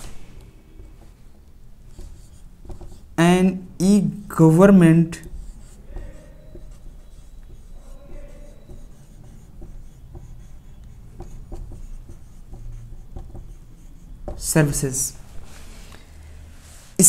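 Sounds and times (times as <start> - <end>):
marker squeaking on whiteboard: 0.7 - 15.5.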